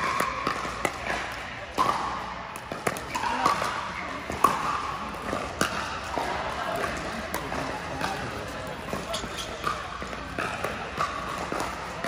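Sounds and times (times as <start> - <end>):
ball bouncing on court: 0.0 - 12.0
murmur of voices: 0.0 - 12.0.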